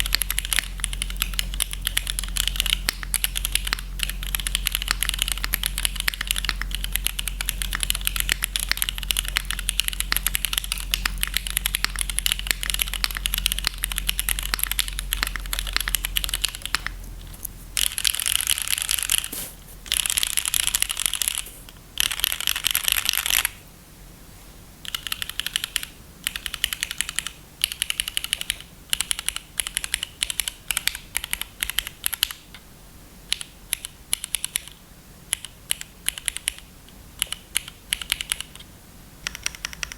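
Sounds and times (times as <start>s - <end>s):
mechanical keyboard typing: 0.0s - 23.6s, 24.9s - 32.4s, 33.3s - 39.9s.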